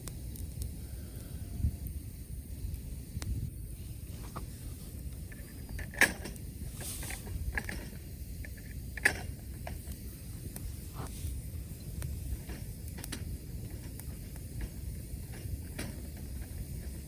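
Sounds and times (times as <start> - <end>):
campfire crackling: 0.0 - 17.0
fire popping: 0.0 - 17.0
low steady rumble: 0.0 - 17.0.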